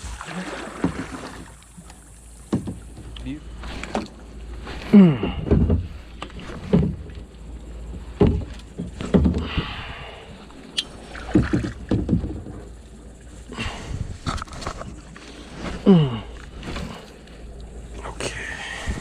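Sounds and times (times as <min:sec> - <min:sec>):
knocks and bumps in a boat: 0:00.0 - 0:19.0.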